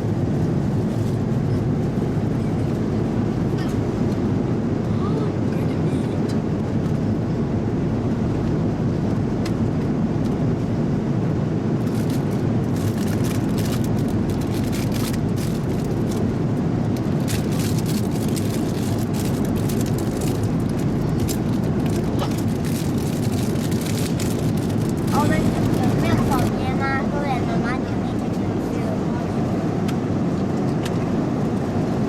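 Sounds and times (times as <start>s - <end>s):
airliner cabin engine rush: 0.0s - 32.0s.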